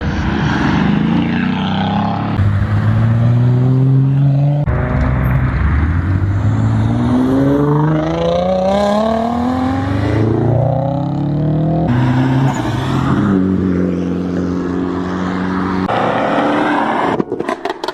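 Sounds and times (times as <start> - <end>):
car engines accelerating: 0.0 - 17.6.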